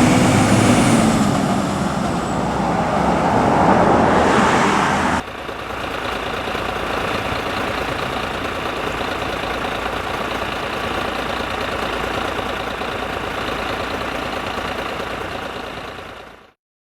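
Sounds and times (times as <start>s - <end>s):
fire engine idling: 0.0s - 16.6s.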